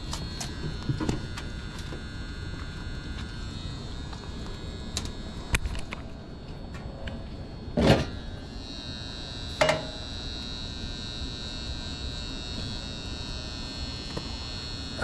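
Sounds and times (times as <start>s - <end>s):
electrical relay hum and buzz: 0.0s - 15.0s
high steady whine: 0.0s - 15.0s.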